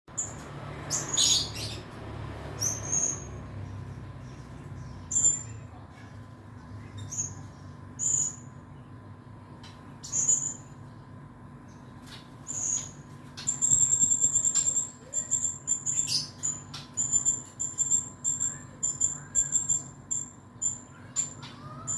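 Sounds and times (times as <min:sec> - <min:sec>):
faint hum: 0:00.1 - 0:21.9.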